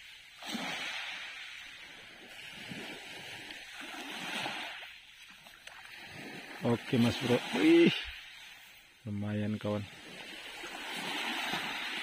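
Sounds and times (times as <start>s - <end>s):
small waves on a pebble beach: 0.0s - 12.0s.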